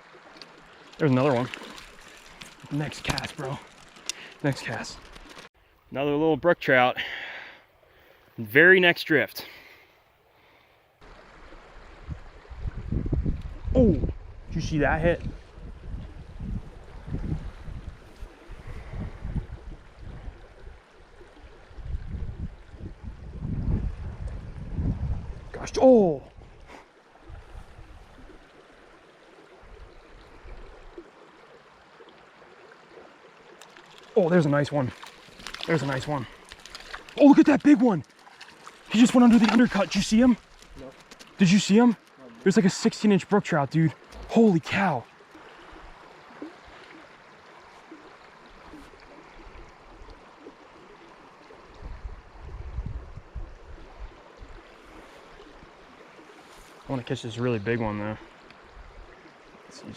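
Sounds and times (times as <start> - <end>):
creek water running: 0.0 - 59.9.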